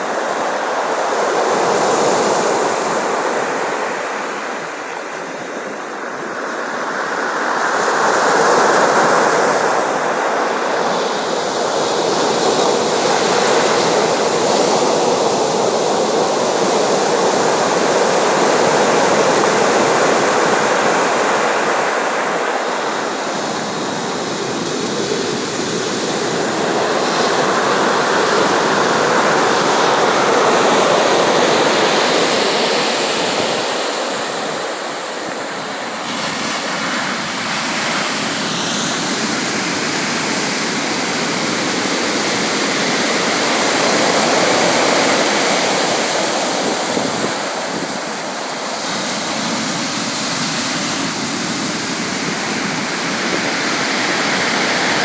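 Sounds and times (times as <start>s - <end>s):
waves washing: 0.0s - 55.0s.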